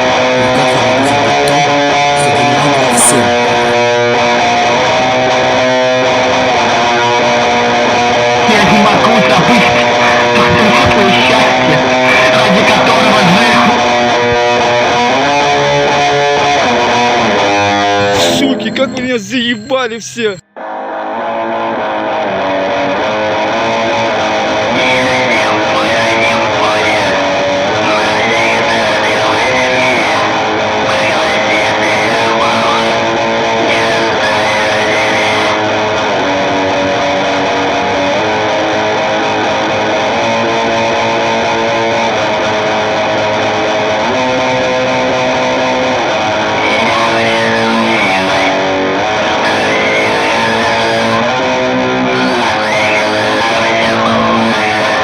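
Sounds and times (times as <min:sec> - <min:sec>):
rock music with electric guitar: 0:00.0 - 0:55.0.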